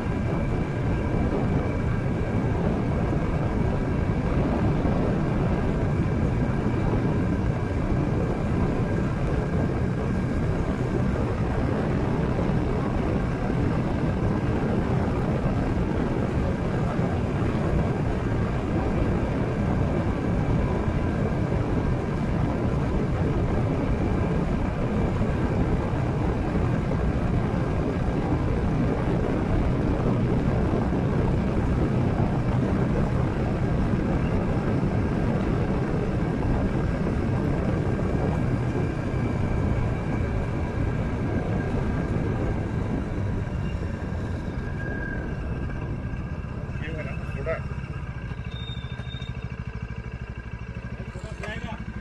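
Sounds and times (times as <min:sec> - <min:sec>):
wind rushing over microphone: 0:00.0 - 0:48.5
motorcycle engine drone: 0:00.0 - 0:52.0.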